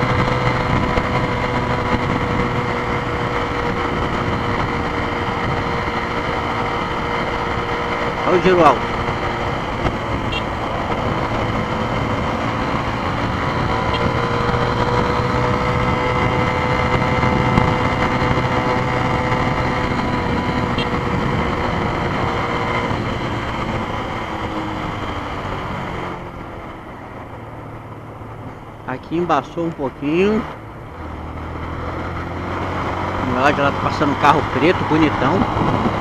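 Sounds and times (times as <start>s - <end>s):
motorcycle engine at high revs: 0.0s - 36.0s
road and wind noise: 0.0s - 36.0s.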